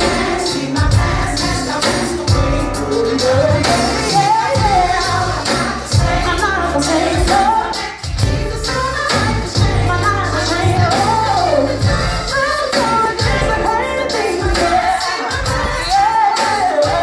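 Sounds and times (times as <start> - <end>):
bass line: 0.0 - 14.9
backing vocalists singing: 0.0 - 17.0
woman singing lead: 0.0 - 17.0.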